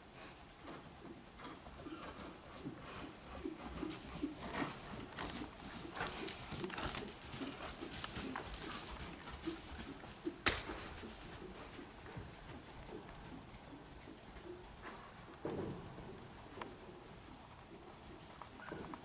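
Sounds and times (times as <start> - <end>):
horse hooves on soft ground: 0.0 - 19.0.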